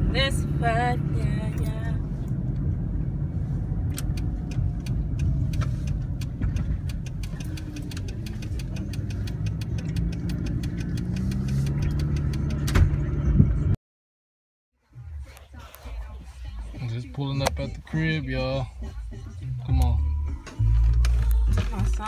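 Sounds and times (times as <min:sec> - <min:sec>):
car engine and road rumble: 0:00.0 - 0:13.8, 0:14.8 - 0:22.0.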